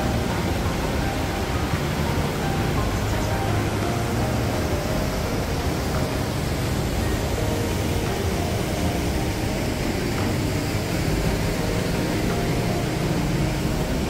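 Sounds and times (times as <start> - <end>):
fast-flowing river rushing: 0.0 - 14.0.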